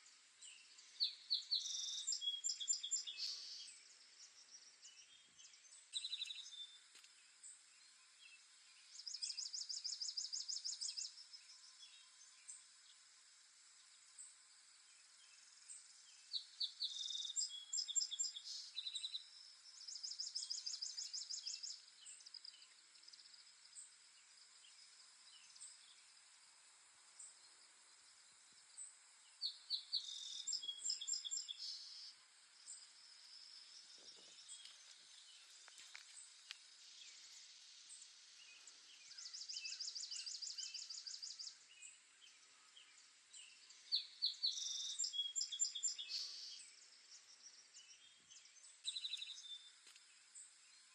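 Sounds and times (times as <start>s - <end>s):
faint background hiss: 0.0s - 50.9s
songbirds chirping and trilling: 0.0s - 50.9s.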